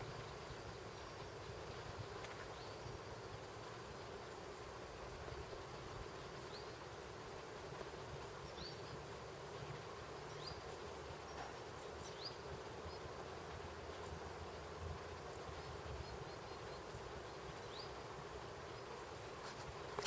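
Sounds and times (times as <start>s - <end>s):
insect-like drone: 0.0s - 20.0s.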